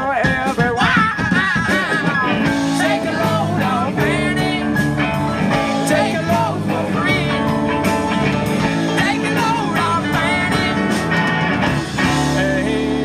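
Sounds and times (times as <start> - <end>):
live rock band playing: 0.0 - 13.0
people singing: 0.1 - 11.2, 12.0 - 13.0.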